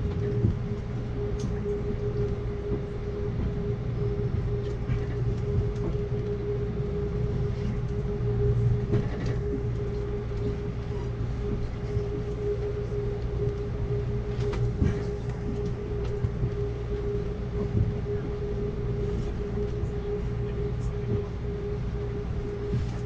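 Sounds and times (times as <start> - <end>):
train rumbling slowly: 0.0 - 23.0.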